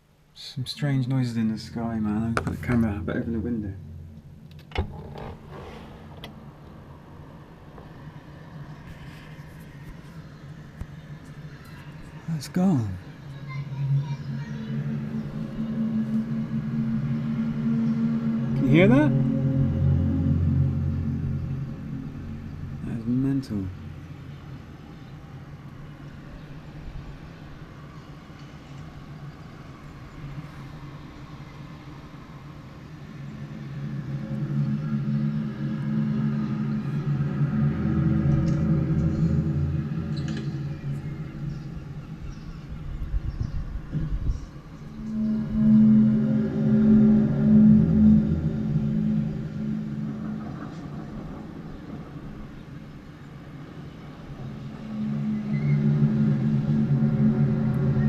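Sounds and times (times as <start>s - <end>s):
low droning hum: 0.0s - 58.0s
rushing background noise: 0.0s - 58.0s.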